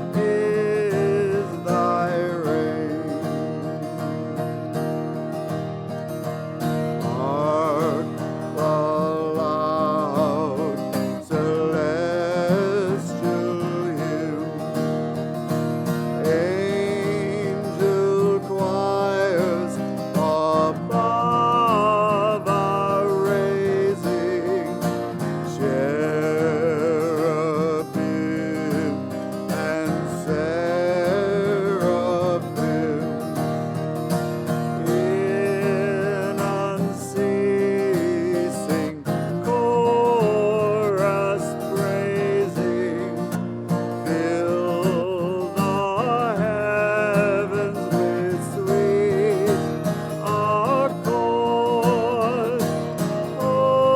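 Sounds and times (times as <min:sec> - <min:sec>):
acoustic guitar: 0:00.0 - 0:53.9.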